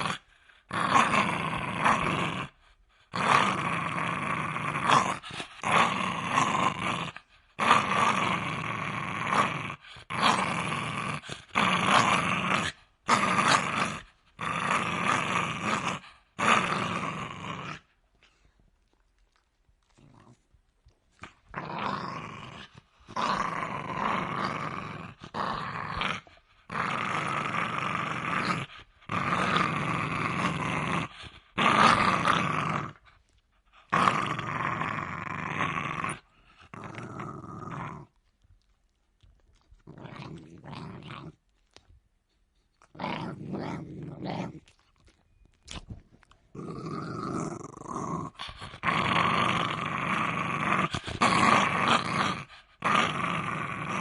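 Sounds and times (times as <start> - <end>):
dog growling: 0.0 - 19.2, 19.8 - 38.4, 39.2 - 41.4, 42.8 - 54.0.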